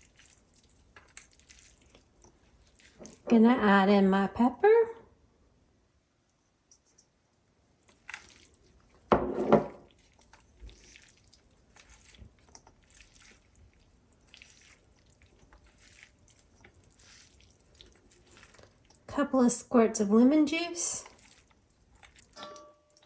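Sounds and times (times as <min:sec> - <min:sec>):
pasta squishing in a pan: 0:00.0 - 0:03.9, 0:06.2 - 0:23.0.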